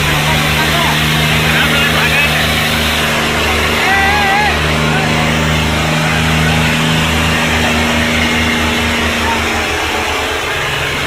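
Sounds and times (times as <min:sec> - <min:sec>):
tractor diesel engine: 0:00.0 - 0:11.0.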